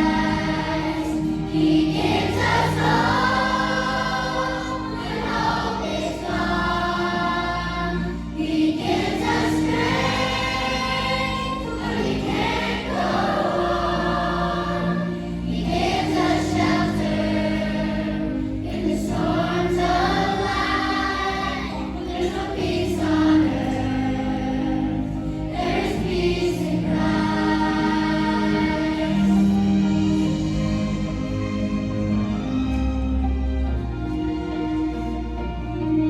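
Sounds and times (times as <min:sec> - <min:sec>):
choir singing: 0:00.0 - 0:31.2
sustained accompaniment: 0:00.0 - 0:36.0.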